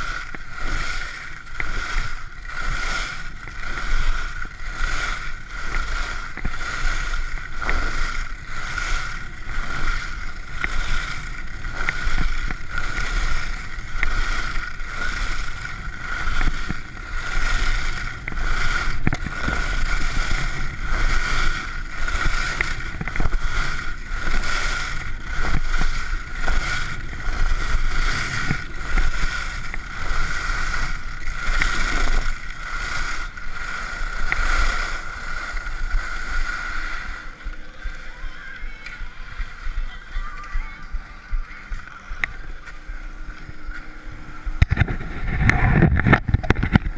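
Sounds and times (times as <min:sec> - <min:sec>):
skis scraping on snow: 0:00.0 - 0:46.9.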